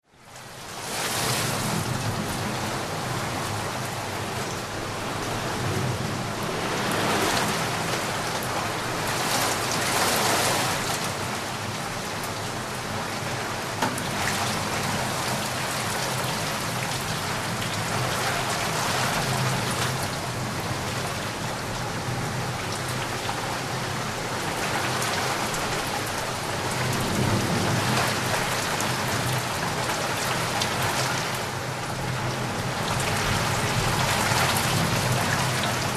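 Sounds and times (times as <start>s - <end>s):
heavy rainfall: 0.0s - 35.9s.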